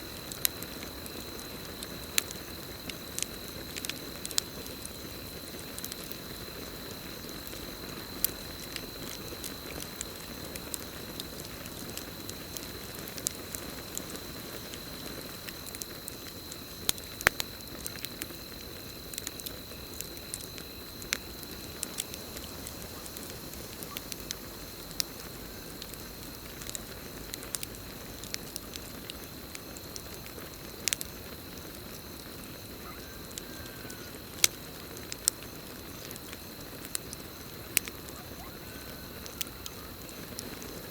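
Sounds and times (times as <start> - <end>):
campfire crackling and popping: 0.0 - 40.9
crickets trilling: 0.0 - 40.9
hiss of flames: 0.0 - 40.9.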